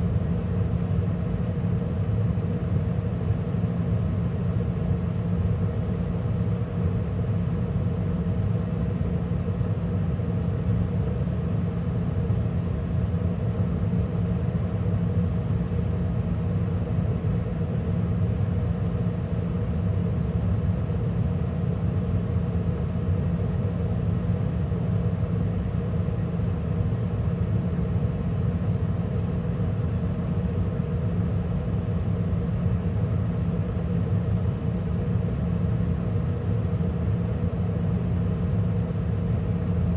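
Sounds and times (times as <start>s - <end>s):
gas furnace running: 0.0s - 39.9s.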